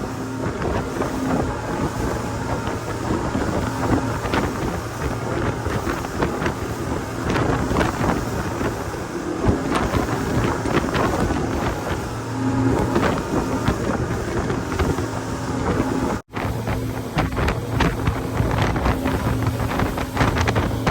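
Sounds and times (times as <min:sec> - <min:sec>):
speedboat engine running: 0:00.0 - 0:20.9
wind noise on microphone: 0:00.0 - 0:20.9
hull knocking on water: 0:00.4 - 0:20.9.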